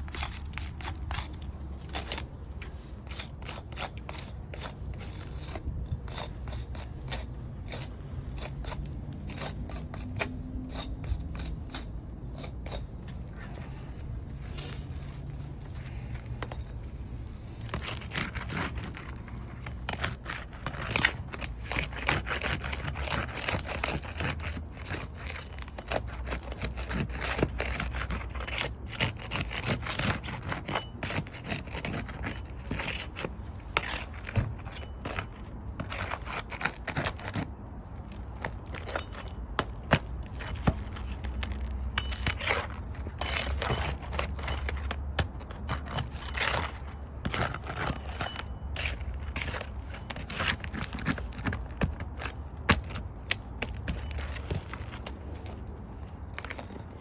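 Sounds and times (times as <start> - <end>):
hand tools scraping shingles: 0.0 - 13.6, 17.6 - 55.6.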